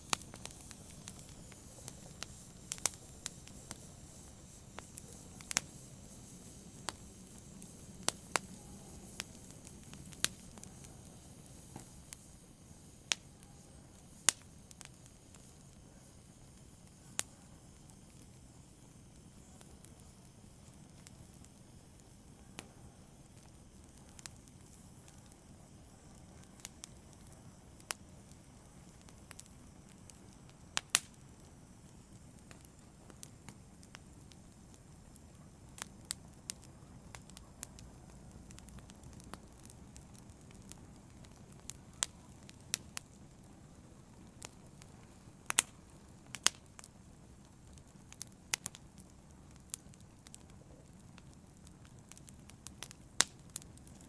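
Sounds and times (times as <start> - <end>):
hiss of flame: 0.0 - 54.0
wood fire crackling and popping: 0.0 - 54.0.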